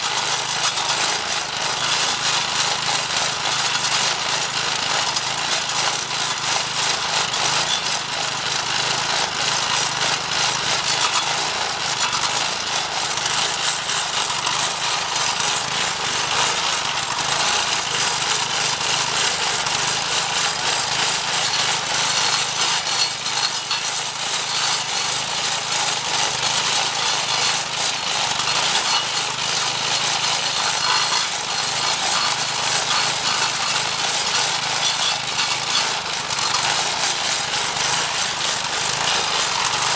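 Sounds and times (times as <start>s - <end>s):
saw blade grinding stump: 0.0s - 39.9s
small engine running: 0.0s - 39.9s.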